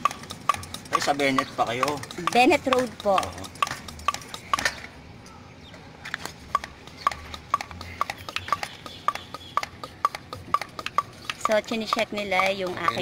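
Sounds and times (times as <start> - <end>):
bicycle wheel metallic clicks: 0.0 - 5.0, 6.5 - 13.0.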